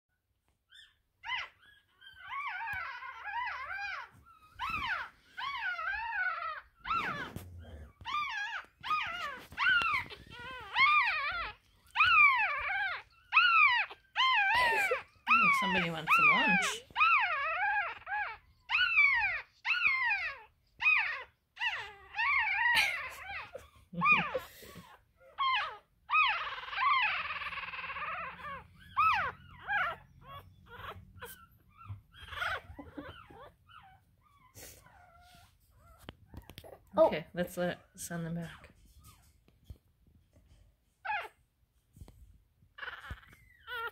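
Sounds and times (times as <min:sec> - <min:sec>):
puppy crying: 0:00.7 - 0:36.9, 0:41.0 - 0:41.5, 0:42.6 - 0:43.9.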